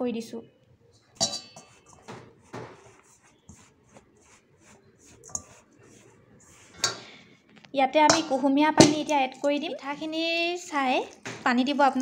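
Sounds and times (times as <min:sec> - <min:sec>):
hand mixing dry mix in bowl: 0:01.3 - 0:11.2.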